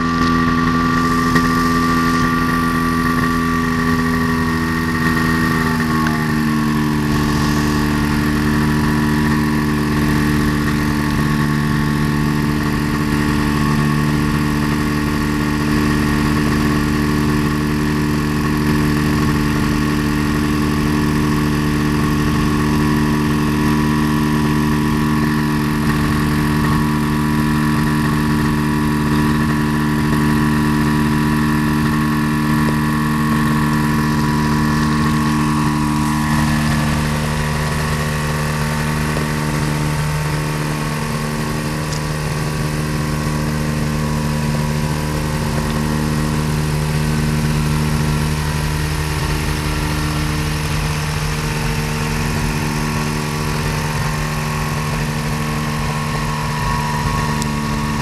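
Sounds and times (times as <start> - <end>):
aircraft engine idling: 0.0 - 58.0.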